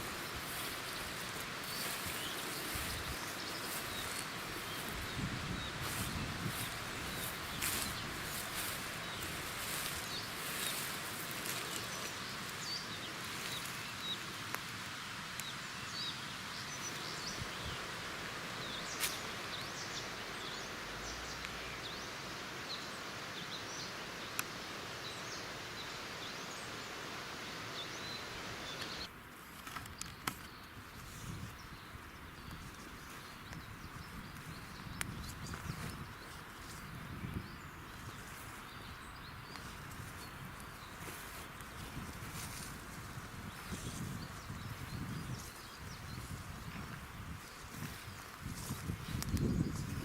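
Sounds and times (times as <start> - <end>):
small birds chirping: 0.0 - 29.1, 29.8 - 50.0
steady hissing background noise: 0.0 - 50.0.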